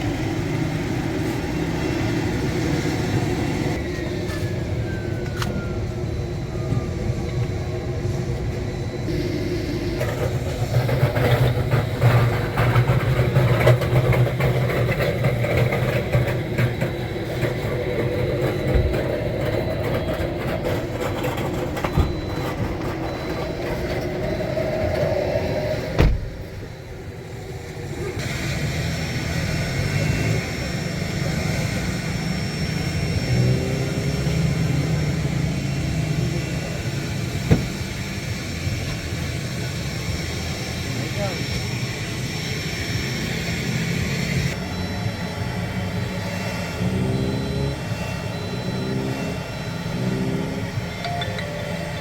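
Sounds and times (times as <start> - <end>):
faint high whine: 0.0 - 52.0.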